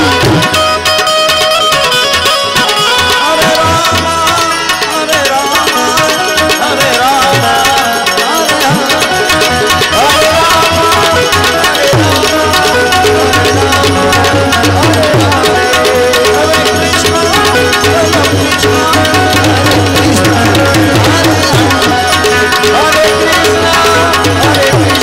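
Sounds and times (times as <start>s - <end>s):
fast tabla playing: 0.0s - 25.0s
sustained melody notes: 0.0s - 25.0s.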